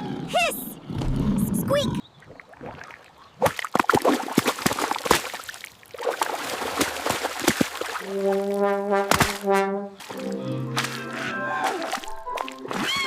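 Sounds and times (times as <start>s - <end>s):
water splashing and sloshing: 2.0s - 13.0s.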